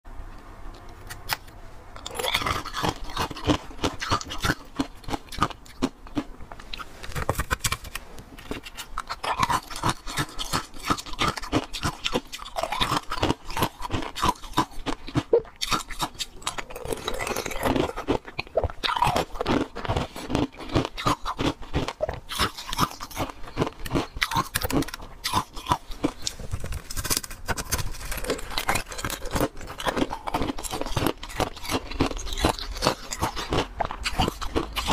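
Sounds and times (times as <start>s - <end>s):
ice being chewed with crunching: 1.1s - 34.9s.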